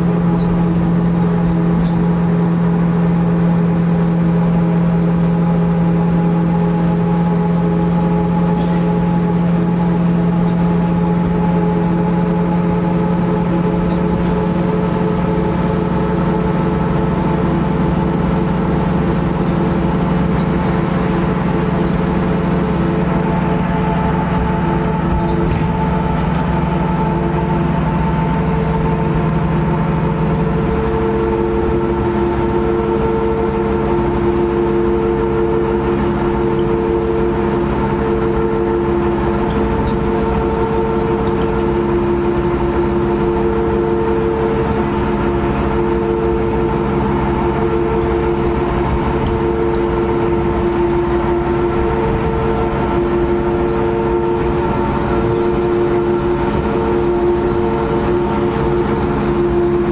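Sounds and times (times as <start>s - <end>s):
bus diesel engine drone: 0.0s - 59.9s
low hum: 0.0s - 59.9s
pulsing whining tone: 0.0s - 59.9s.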